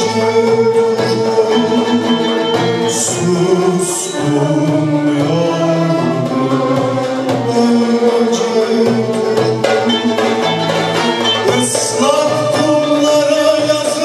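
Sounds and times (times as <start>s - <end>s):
man singing: 0.0s - 14.0s
violins: 0.0s - 14.0s.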